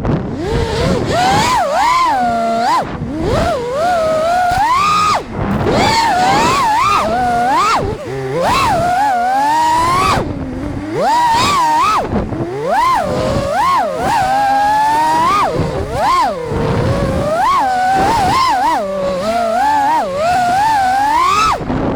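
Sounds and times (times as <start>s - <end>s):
drone motors whining: 0.0s - 21.9s.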